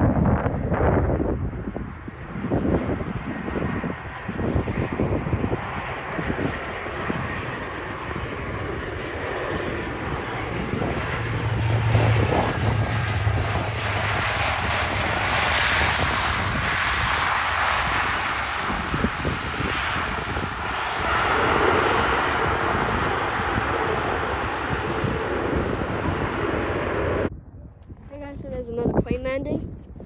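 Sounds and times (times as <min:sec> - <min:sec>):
plane engines droning: 0:00.0 - 0:29.0.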